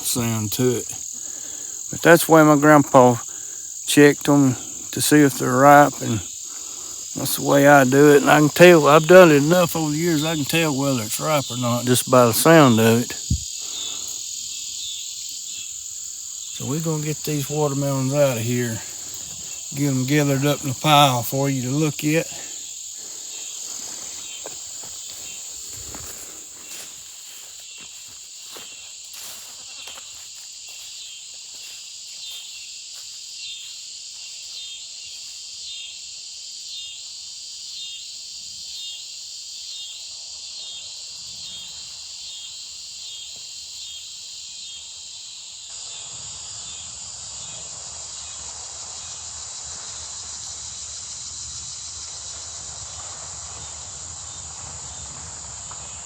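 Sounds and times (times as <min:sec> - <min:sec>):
insects trilling: 0:00.0 - 0:56.0
pulsing insect call: 0:00.0 - 0:56.0.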